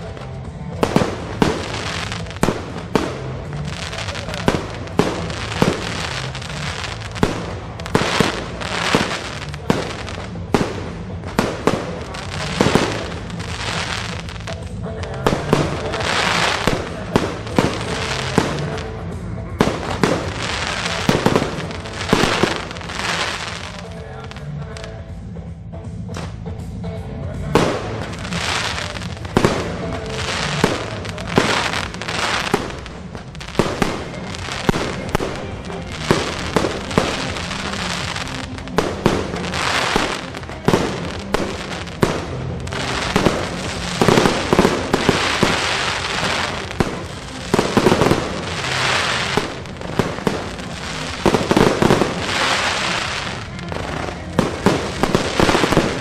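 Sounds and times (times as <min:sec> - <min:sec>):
music: 0:00.0 - 0:56.0.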